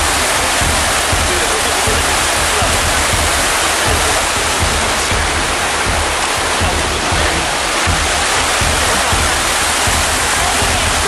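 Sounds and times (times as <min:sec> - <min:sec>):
whitewater rushing over boulders: 0:00.0 - 0:11.0.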